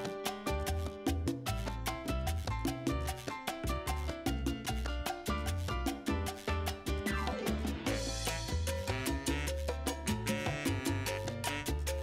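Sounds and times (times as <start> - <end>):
salsa music: 0.0 - 12.0.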